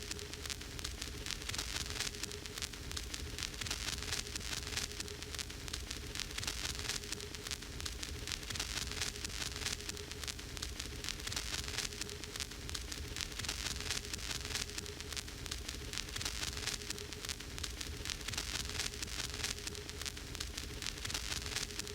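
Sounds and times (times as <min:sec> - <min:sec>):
faint steady hum: 0:00.0 - 0:21.9
vinyl surface crackle: 0:00.0 - 0:21.9.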